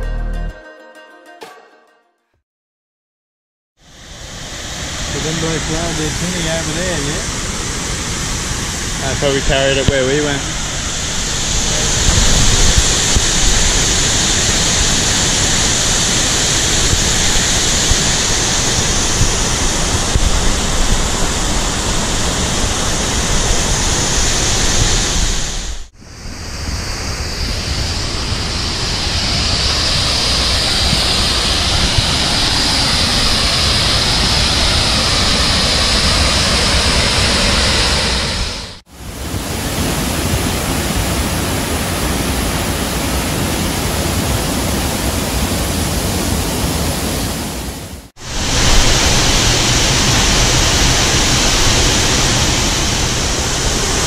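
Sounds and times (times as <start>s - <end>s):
waterfall rushing: 3.9s - 25.9s, 26.7s - 54.0s.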